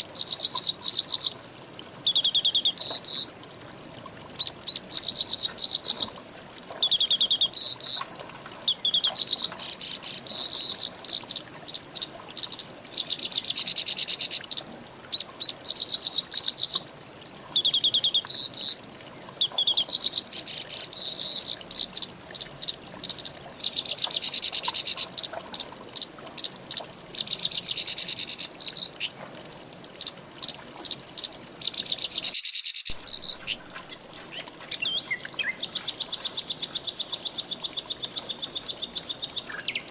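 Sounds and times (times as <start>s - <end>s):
songbirds singing: 0.0s - 3.6s, 4.4s - 39.9s.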